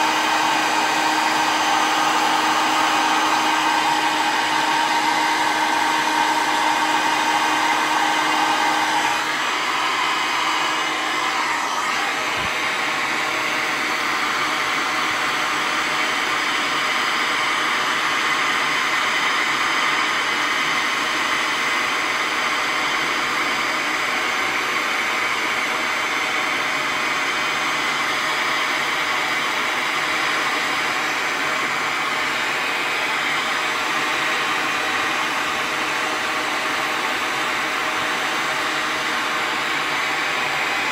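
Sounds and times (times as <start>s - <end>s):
heat gun blowing air: 0.0s - 40.9s.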